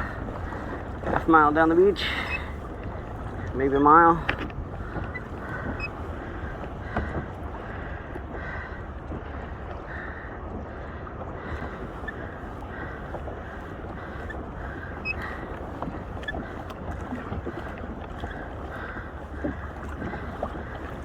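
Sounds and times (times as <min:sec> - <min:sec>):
paddle splashes: 0:00.0 - 0:21.0
water sloshing around kayak: 0:00.0 - 0:21.0
wind buffeting microphone: 0:00.0 - 0:21.0.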